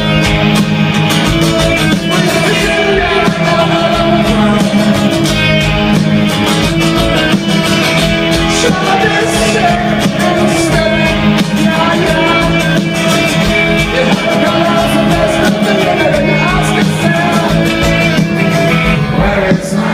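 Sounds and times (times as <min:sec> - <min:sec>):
rock band with singing: 0:00.0 - 0:19.9.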